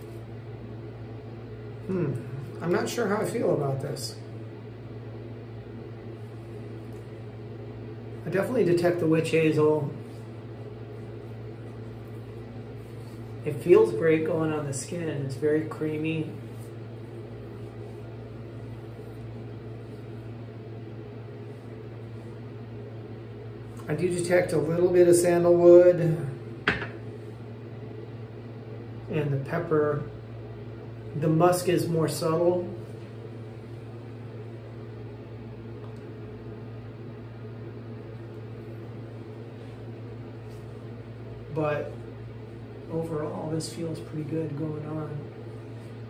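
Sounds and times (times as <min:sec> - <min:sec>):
fan humming: 0:00.0 - 0:46.0.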